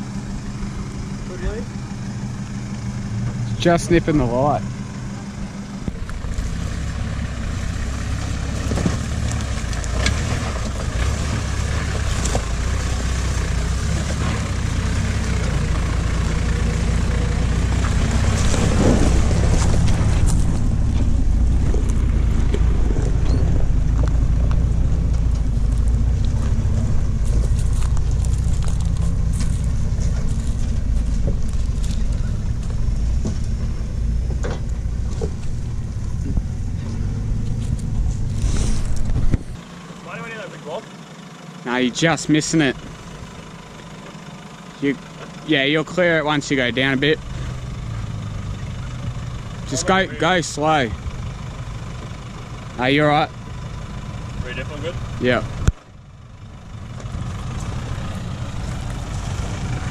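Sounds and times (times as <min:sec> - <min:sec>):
engine running at low revs: 0:00.0 - 0:59.9.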